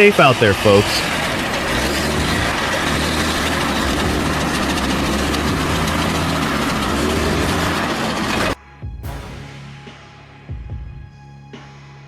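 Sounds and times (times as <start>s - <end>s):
heavy vehicle engine running: 0.0s - 10.1s.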